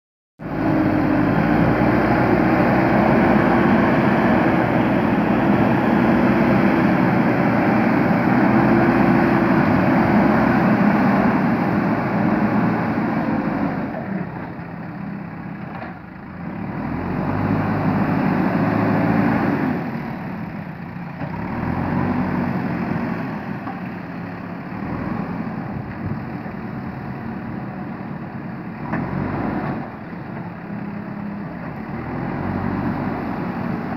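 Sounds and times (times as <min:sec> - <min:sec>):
diesel engine running under load: 0:00.4 - 0:33.9.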